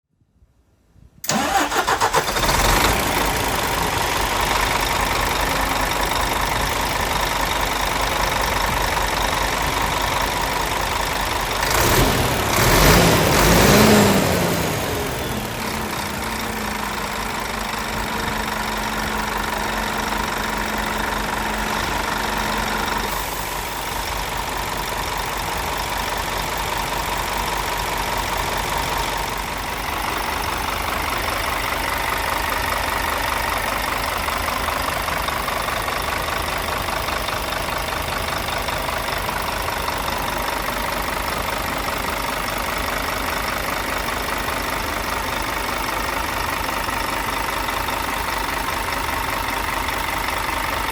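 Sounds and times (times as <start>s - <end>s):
diesel engine idling: 1.2s - 50.9s.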